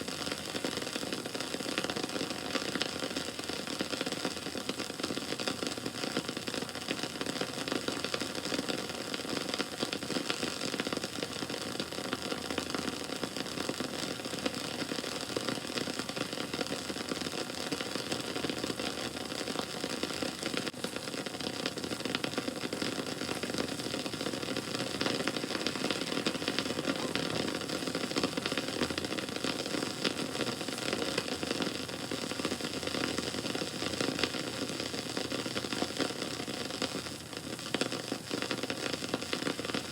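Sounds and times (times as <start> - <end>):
bonfire crackling and rushing: 0.0 - 39.9.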